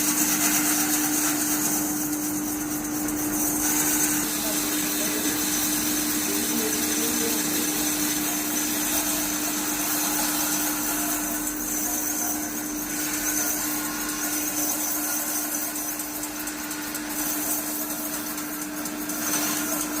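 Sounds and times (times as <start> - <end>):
woodworking machine motor hum: 0.0 - 20.0.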